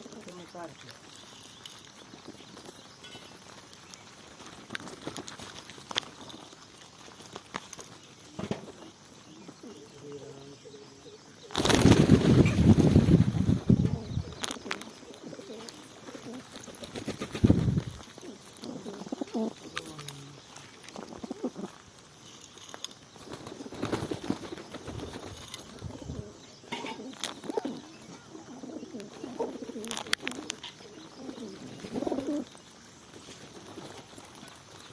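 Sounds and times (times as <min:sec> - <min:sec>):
pigeons tapping and scratching: 0:00.0 - 0:10.3, 0:11.5 - 0:34.9
pigeons cooing: 0:04.5 - 0:21.9, 0:23.2 - 0:34.9.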